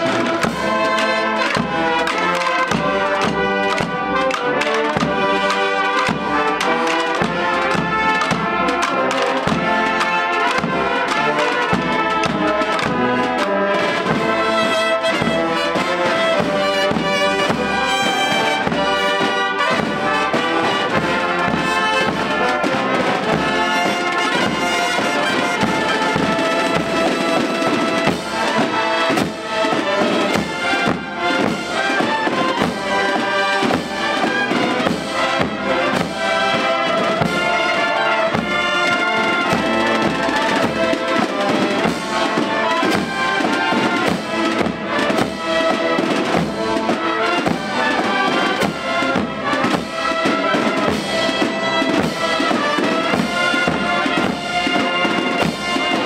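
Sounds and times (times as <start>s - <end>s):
marching band brass: 0.0s - 56.0s.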